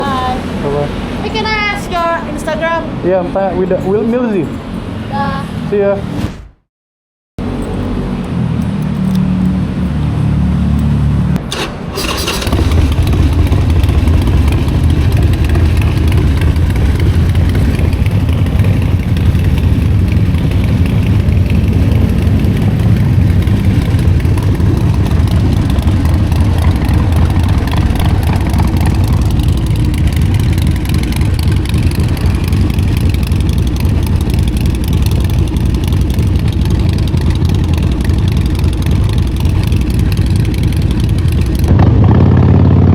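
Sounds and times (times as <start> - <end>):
motorcycle engine running: 7.4 - 42.9.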